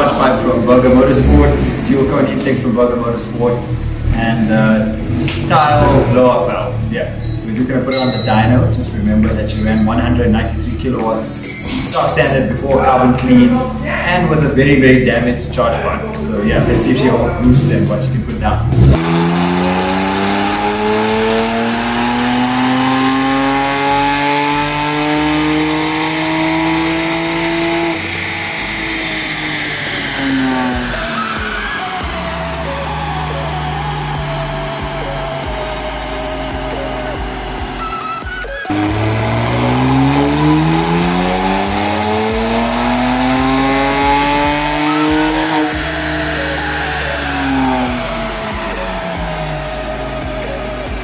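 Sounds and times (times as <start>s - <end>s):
car engine full-throttle revving: 0.0s - 51.0s.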